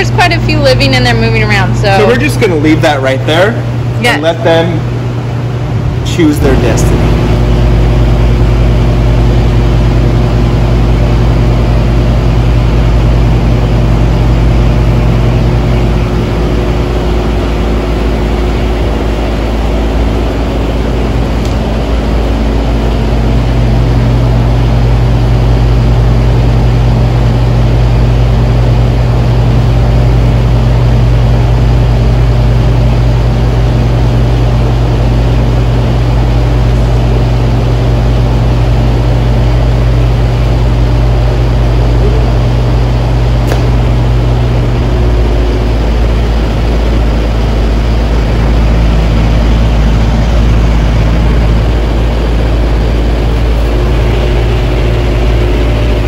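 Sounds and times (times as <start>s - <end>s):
mechanical drone with deep hum: 0.0s - 56.0s.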